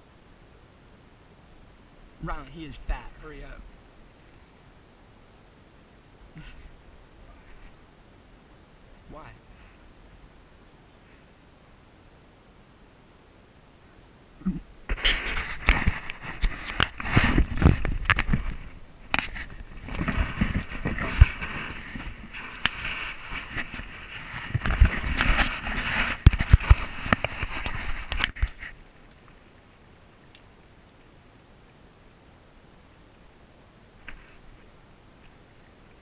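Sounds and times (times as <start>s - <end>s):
faint steady background: 0.0s - 36.0s
rustling dry vegetation: 0.0s - 36.0s.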